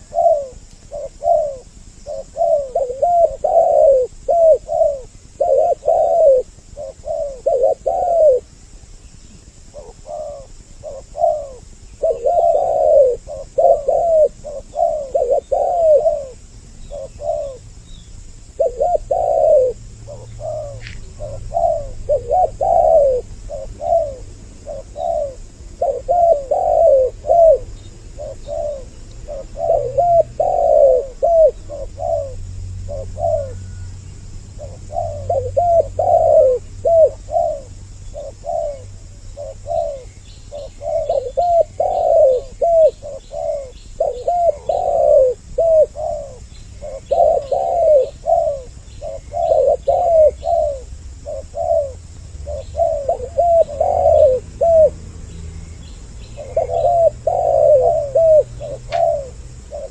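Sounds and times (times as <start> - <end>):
doves cooing: 0.0 - 8.6, 9.4 - 55.2, 56.0 - 59.9.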